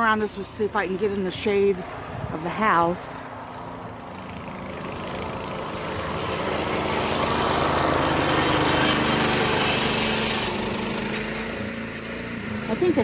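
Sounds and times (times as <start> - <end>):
snowblower engine running: 0.1 - 13.0.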